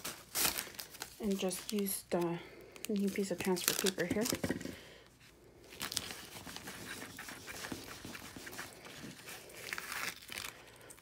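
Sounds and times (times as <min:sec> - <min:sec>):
transfer tape crinkling and rustling: 0:00.0 - 0:04.8, 0:05.6 - 0:11.0.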